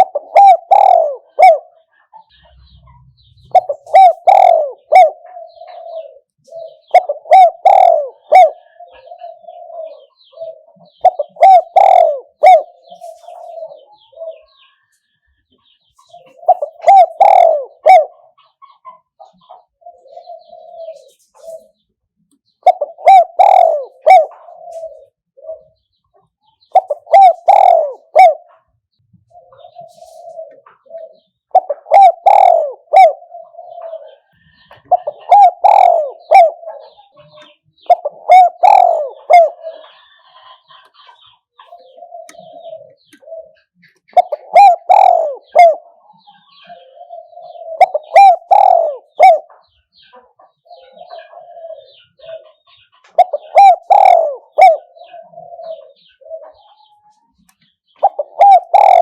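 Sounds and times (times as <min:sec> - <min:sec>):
dove cooing: 0:00.0 - 0:14.8, 0:16.0 - 0:21.8, 0:22.6 - 0:59.0.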